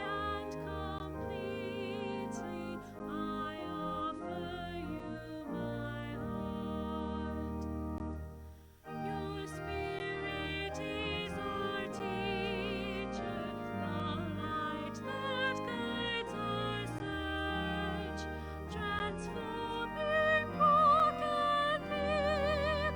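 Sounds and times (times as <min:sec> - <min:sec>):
slow church music: 0:00.0 - 0:22.9.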